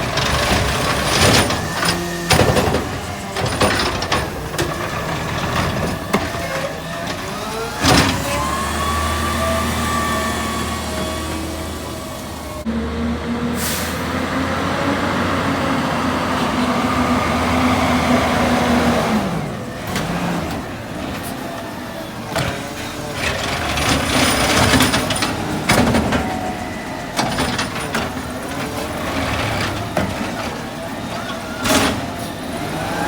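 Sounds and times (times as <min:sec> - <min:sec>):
garbage truck engine: 0:00.0 - 0:33.0.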